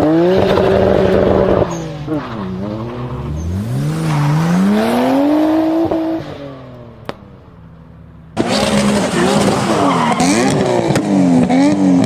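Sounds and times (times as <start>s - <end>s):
car engine accelerating hard: 0.0s - 7.0s, 8.4s - 12.0s.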